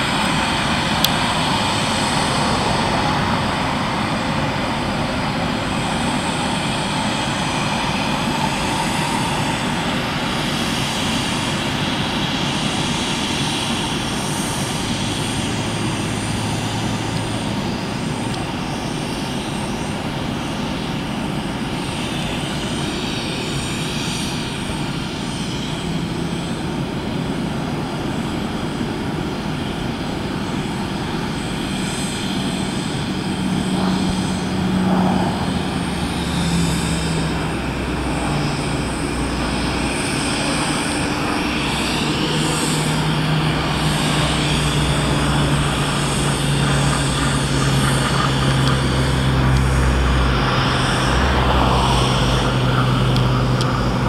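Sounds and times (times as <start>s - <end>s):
propeller aircraft engine drone: 0.0s - 54.0s.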